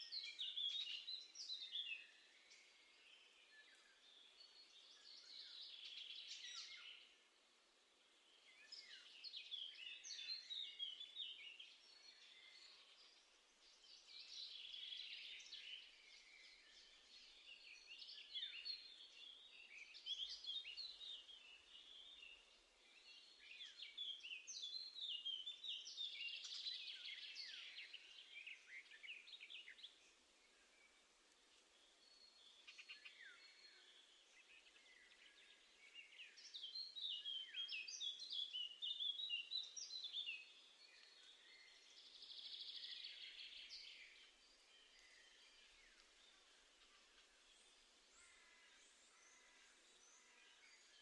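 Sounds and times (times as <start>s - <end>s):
small birds chirping and trilling: 0.0s - 51.0s.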